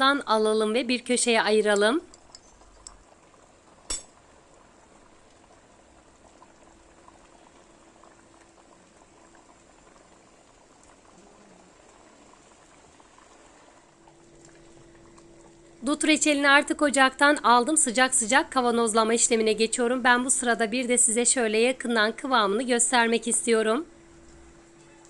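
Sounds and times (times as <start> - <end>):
thick syrup bubbling: 1.5 - 22.9.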